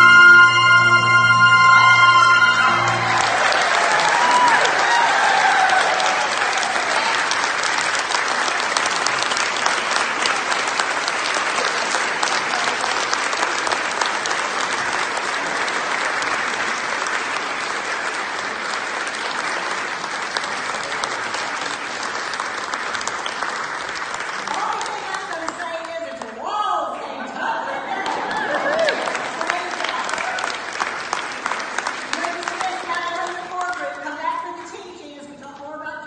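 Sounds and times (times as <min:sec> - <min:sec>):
crowd applauding: 0:00.0 - 0:26.4, 0:27.1 - 0:34.7.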